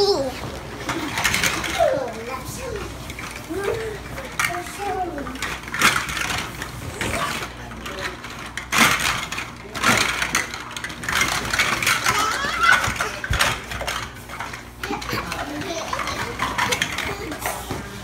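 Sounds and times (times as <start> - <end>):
plastic balls clattering together: 0.0 - 18.0.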